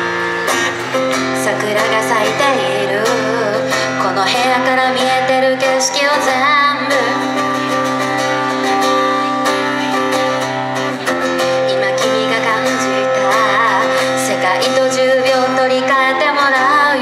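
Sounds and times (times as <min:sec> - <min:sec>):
strummed acoustic guitar: 0:00.0 - 0:17.0
woman singing: 0:01.2 - 0:09.8, 0:11.3 - 0:17.0.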